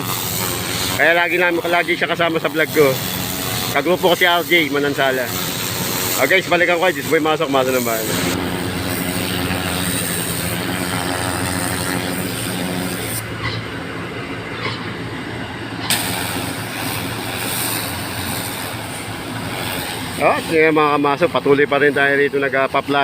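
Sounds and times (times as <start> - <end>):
water hose hissing on pavement: 0.0 - 13.2, 15.9 - 22.3
pump engine humming: 0.0 - 23.0.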